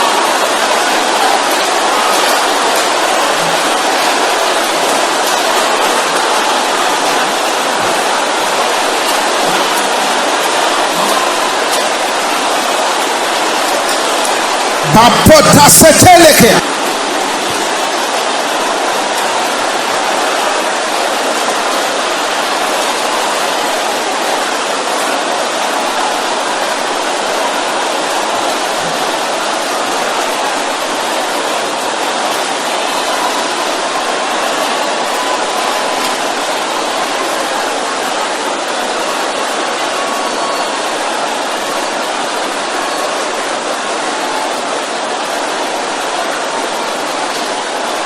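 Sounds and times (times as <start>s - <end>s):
congregation praying aloud: 0.0s - 48.0s.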